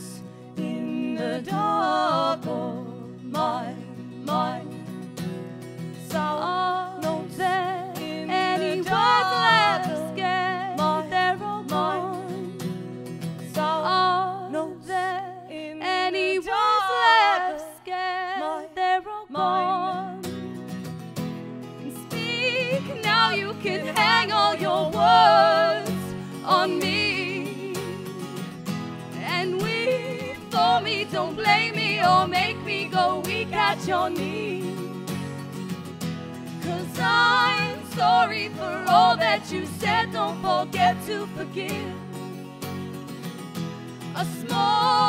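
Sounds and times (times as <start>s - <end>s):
women singing: 0.0s - 5.0s, 6.0s - 12.6s, 13.5s - 20.3s, 21.8s - 28.5s, 29.1s - 35.2s, 36.6s - 42.2s, 44.1s - 45.0s
strummed acoustic guitars: 0.0s - 45.0s.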